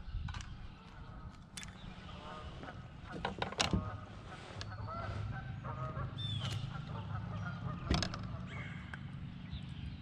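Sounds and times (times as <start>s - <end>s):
birds honking: 0.6s - 10.0s.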